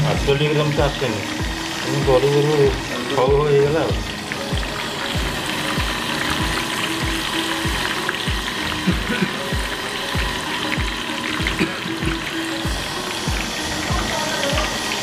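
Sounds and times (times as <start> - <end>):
background music with steady beat: 0.0 - 15.0
fritters sizzling in hot oil: 0.0 - 15.0.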